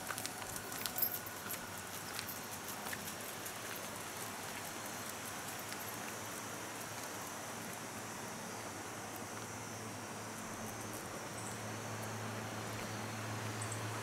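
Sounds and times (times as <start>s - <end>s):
even outdoor hiss: 0.0s - 14.0s.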